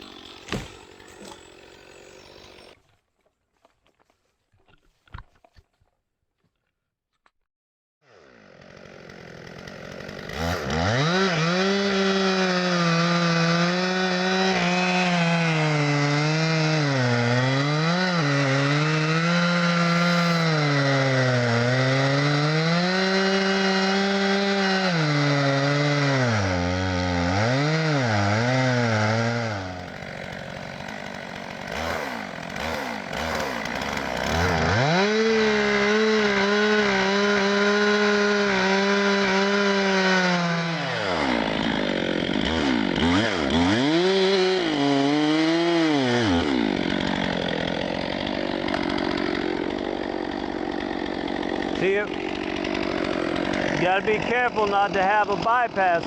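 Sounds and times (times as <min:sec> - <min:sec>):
chainsaw cutting wood: 0:00.0 - 0:03.0, 0:08.0 - 0:56.0.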